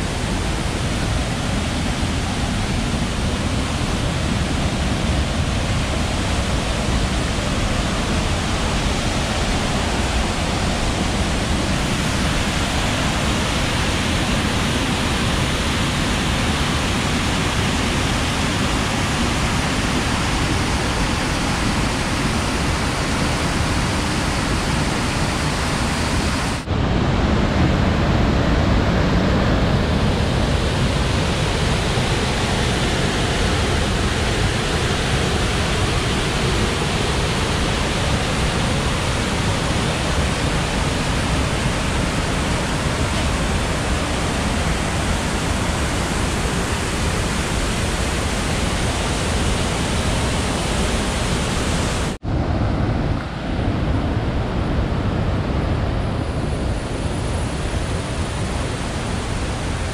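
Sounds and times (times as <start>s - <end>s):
whitewater rushing over rocks: 0.0s - 52.6s.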